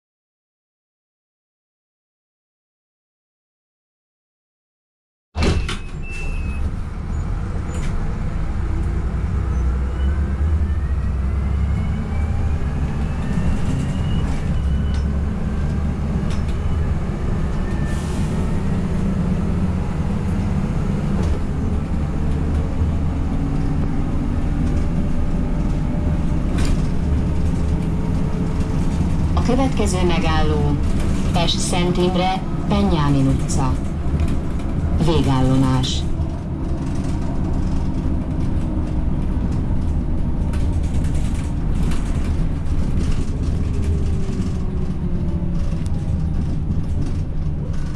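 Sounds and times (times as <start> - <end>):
bus body knocking and rattling: 5.4 - 10.0, 12.3 - 17.8, 18.4 - 47.9
bus engine drone: 5.4 - 47.9.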